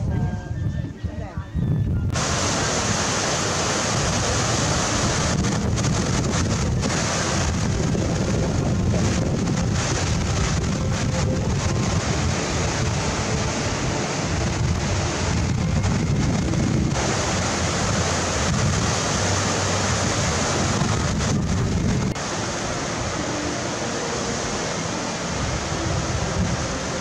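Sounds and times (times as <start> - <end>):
wind buffeting microphone: 0.0 - 27.0
river rapids rushing over boulders: 2.2 - 27.0.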